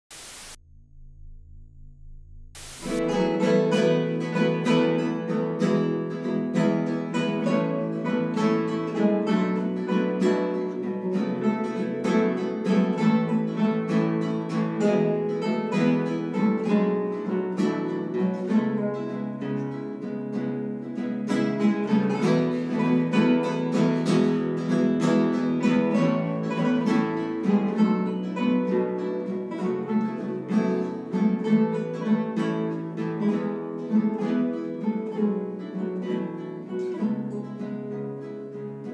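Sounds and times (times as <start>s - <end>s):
classical guitars playing: 3.0s - 38.9s.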